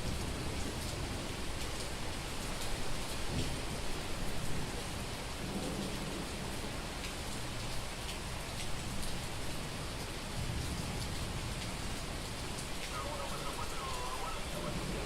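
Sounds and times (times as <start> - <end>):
heavy rain on a street: 0.0 - 15.0.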